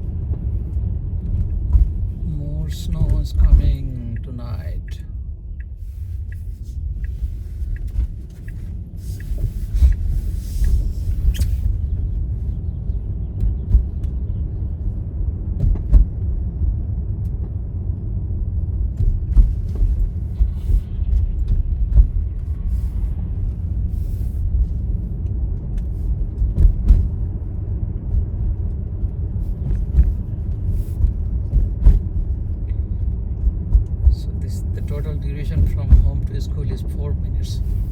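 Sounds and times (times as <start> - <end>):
tyres and engine rumbling: 0.0 - 37.9.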